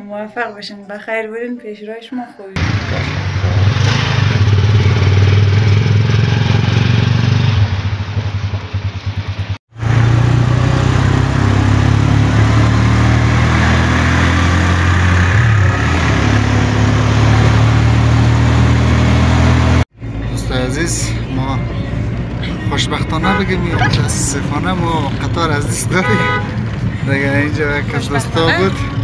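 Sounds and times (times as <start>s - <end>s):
road noise: 2.5s - 29.0s
vehicle engine running: 2.6s - 29.0s.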